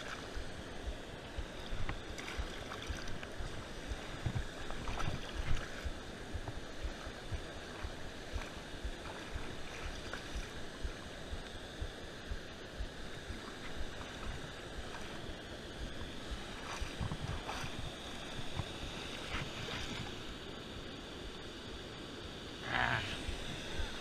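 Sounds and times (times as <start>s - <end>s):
wind buffeting microphone: 0.0s - 15.2s, 15.8s - 20.2s.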